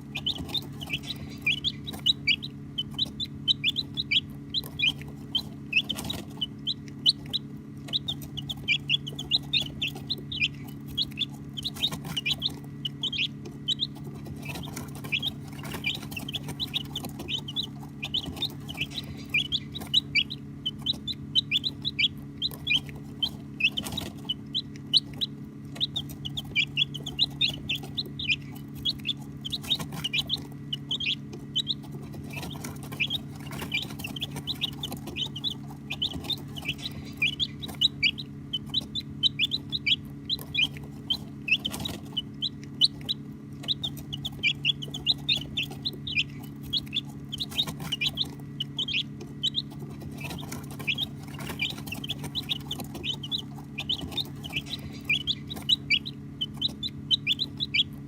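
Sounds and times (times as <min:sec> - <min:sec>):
baby chicks peeping: 0:00.0 - 0:58.0
steady low hum: 0:00.0 - 0:58.0.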